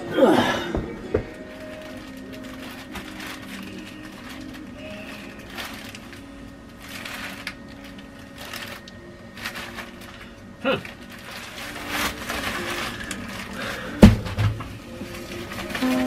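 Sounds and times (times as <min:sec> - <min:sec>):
plastic wrapping crinkling: 0:01.2 - 0:16.0.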